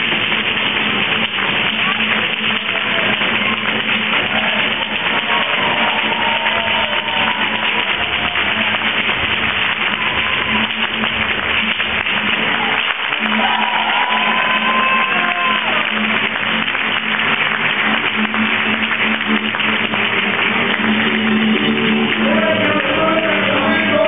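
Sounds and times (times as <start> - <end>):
many hands clapping: 0.0 - 24.0.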